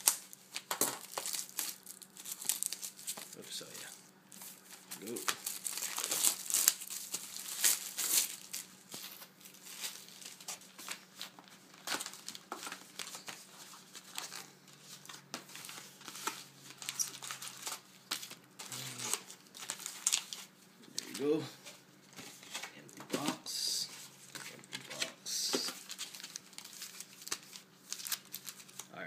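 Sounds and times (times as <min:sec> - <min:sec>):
plastic shrink-wrap crinkling and tearing: 0:00.0 - 0:21.4, 0:24.2 - 0:29.0
foil packs handled: 0:00.0 - 0:21.5, 0:22.1 - 0:29.0.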